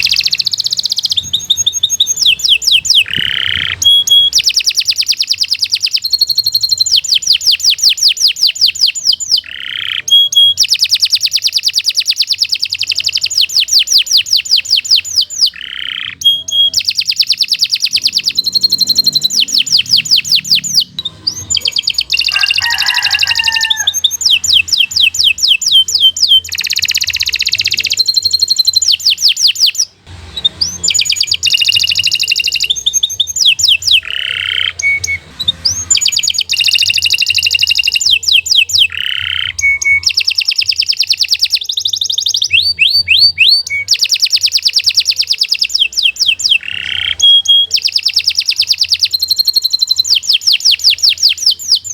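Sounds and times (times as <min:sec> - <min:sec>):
canary singing trills: 0:00.0 - 0:51.9.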